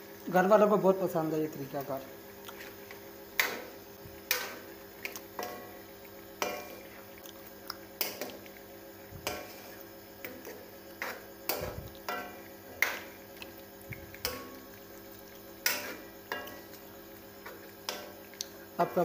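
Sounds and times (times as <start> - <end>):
faint steady hum: 0.0 - 19.0
curry simmering: 1.8 - 19.0.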